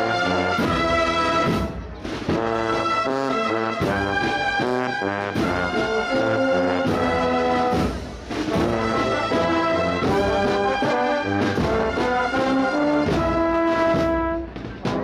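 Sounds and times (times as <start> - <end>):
brass band marching: 0.0 - 15.0
steady drum beat: 0.0 - 15.0.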